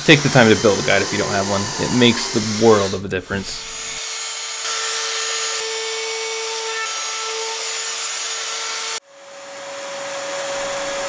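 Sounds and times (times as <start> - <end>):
trim router whining: 0.0 - 11.0.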